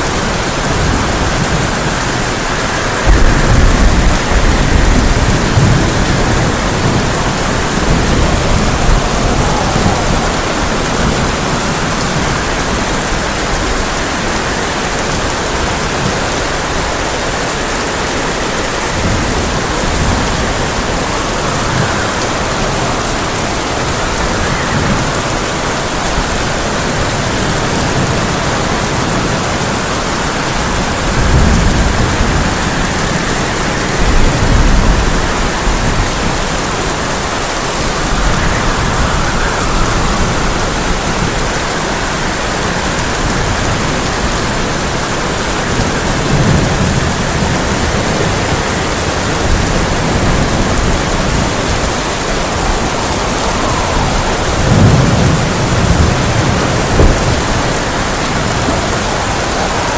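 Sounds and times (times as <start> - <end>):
heavy rain on a tin roof: 0.0 - 59.9
thunder rolling: 0.0 - 59.9.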